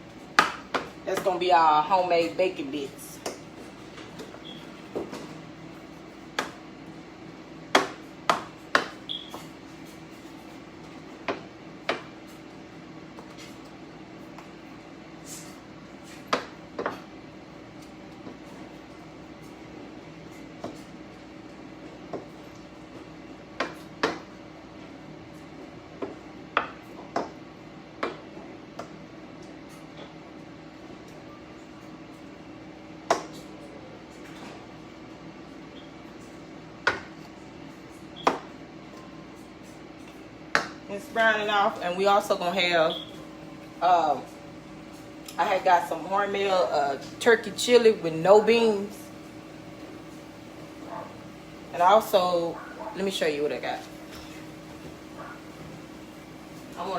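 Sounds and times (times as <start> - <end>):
air fryer humming: 0.0 - 56.9.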